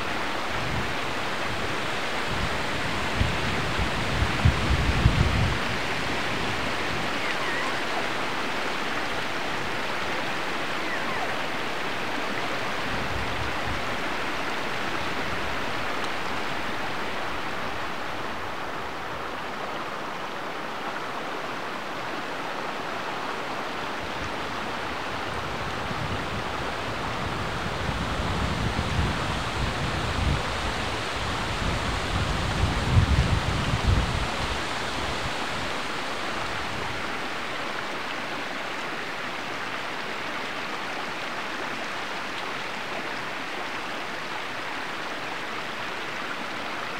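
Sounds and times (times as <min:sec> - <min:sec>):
stream water rushing: 0:00.0 - 0:46.9.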